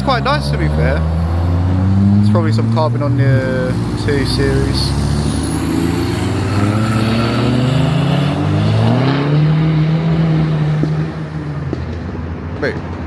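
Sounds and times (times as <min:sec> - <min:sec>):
car accelerating away: 0:00.0 - 0:13.0.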